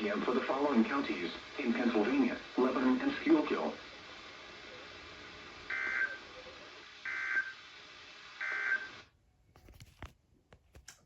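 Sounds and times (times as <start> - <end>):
radio hiss: 0.0 - 9.1.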